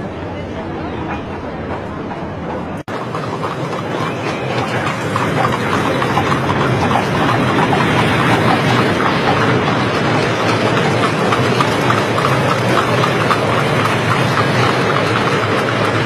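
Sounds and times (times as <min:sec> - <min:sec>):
crowd murmur: 0:00.0 - 0:16.0
hooves clopping: 0:01.1 - 0:16.0
carriage wheels rattling: 0:02.9 - 0:16.0.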